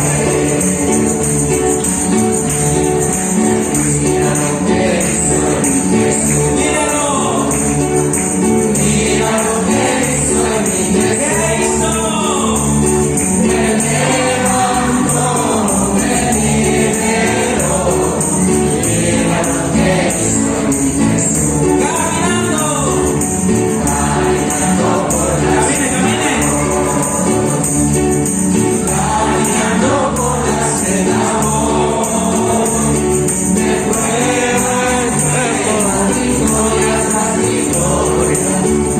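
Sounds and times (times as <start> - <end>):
group singing gospel song: 0.0 - 38.9
tambourine jingle: 0.0 - 38.9.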